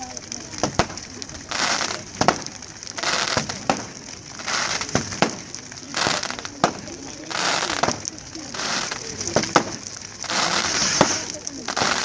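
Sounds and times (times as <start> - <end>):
firework shells bursting: 0.0 - 12.0
hissing crackle: 0.0 - 12.0.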